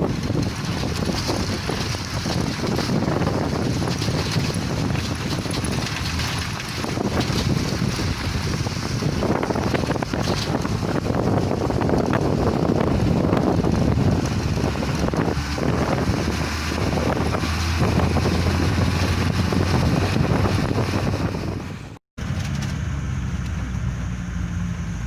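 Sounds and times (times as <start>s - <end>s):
wind buffeting microphone: 0.0s - 24.2s.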